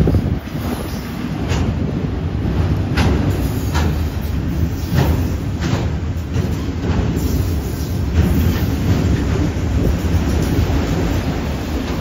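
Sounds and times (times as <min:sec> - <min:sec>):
train wheels rumbling on rails: 0:00.0 - 0:12.0
wheels clacking over rail joints: 0:00.0 - 0:12.0.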